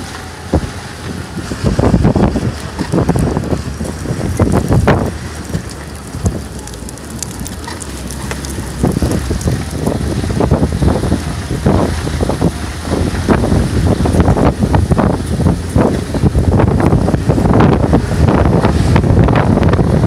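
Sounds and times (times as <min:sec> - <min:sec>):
all-terrain vehicle engine drone: 0:00.0 - 0:20.0
wind buffeting microphone: 0:00.0 - 0:20.0.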